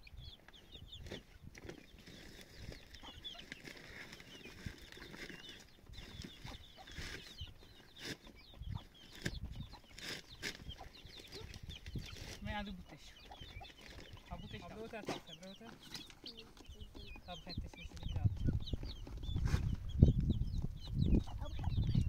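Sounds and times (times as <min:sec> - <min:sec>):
birds clucking and chirping: 0:00.0 - 0:22.0.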